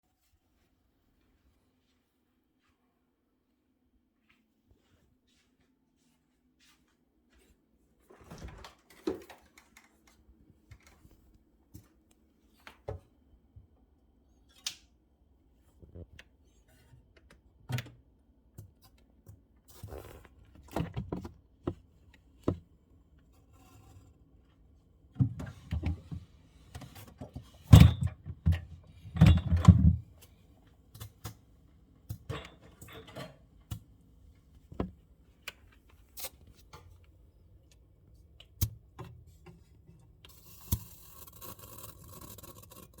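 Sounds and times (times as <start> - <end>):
faint refrigerator hum: 0.1 - 43.0.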